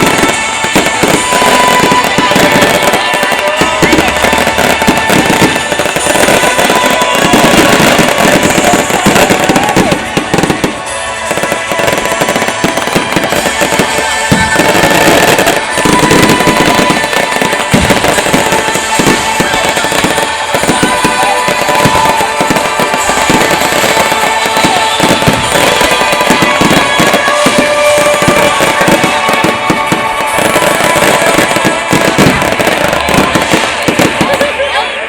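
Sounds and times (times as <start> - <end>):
fireworks bangs and crackles: 0.0 - 35.0
music playing: 0.0 - 35.0.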